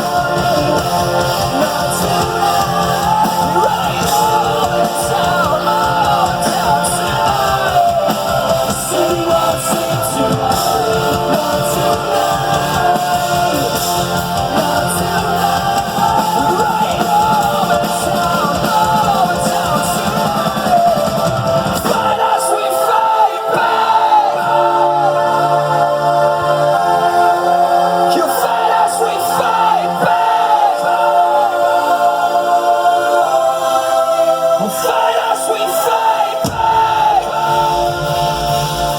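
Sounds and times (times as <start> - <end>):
rock band playing: 0.0 - 38.9
voices singing: 0.0 - 38.9.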